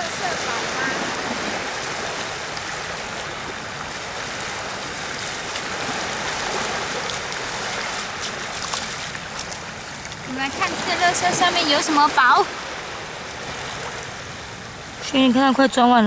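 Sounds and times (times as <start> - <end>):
sea waves on sandy shore: 0.0 - 16.0.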